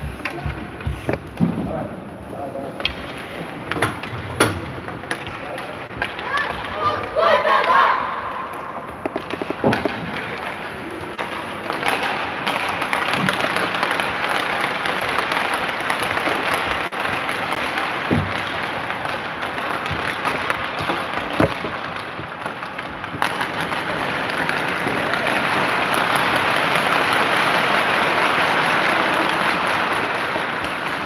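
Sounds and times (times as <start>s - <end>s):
applause and chatter: 5.4s - 31.0s.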